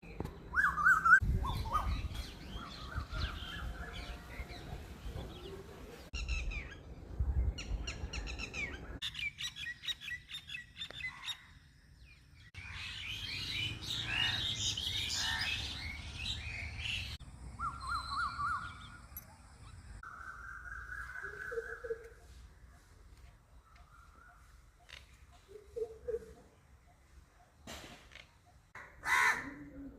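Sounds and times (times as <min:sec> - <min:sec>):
small birds chirping and singing: 0:00.0 - 0:28.8.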